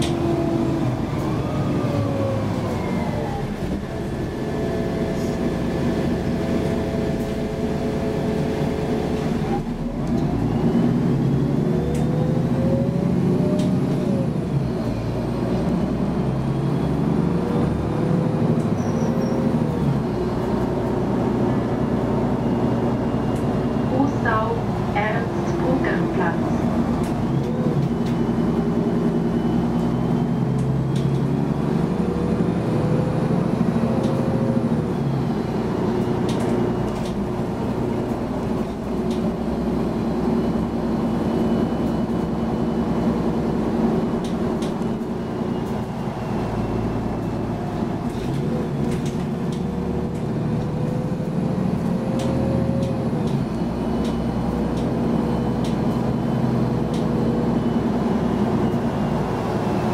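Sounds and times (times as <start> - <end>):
bus diesel engine hum: 0.0 - 59.9.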